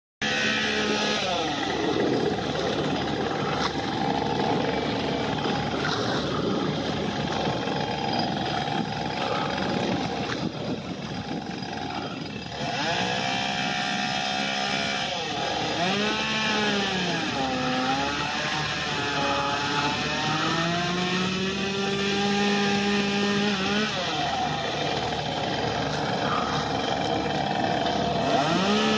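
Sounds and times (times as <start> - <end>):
small engine revving: 0.2 - 28.9.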